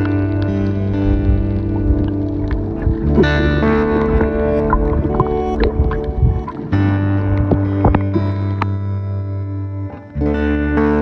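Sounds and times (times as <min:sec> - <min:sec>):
background music with held chords: 0:00.0 - 0:11.0.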